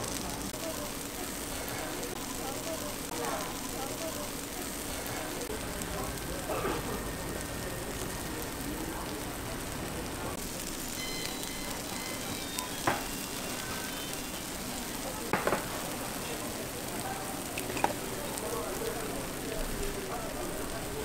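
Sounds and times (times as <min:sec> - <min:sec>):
batter sizzling on hot iron: 0:00.0 - 0:21.0.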